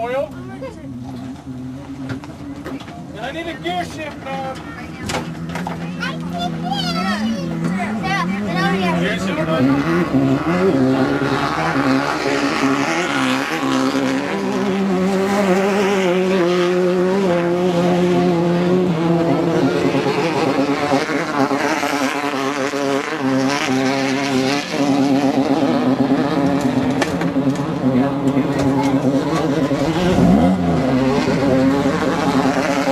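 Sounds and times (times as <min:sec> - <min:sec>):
buggy engine revving: 0:00.0 - 0:32.9.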